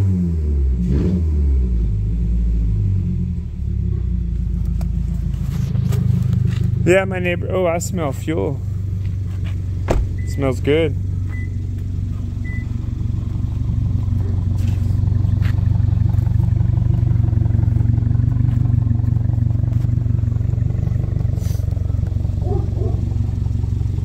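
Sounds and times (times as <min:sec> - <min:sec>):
car engine idling: 0:01.7 - 0:24.0.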